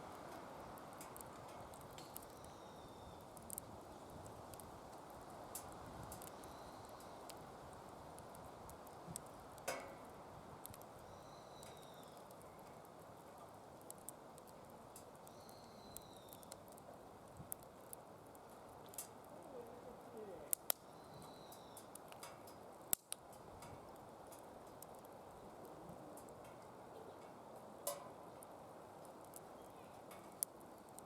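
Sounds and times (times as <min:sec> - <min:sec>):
fire crackles and pops: 0:00.0 - 0:31.0
fire rushing: 0:00.0 - 0:31.0.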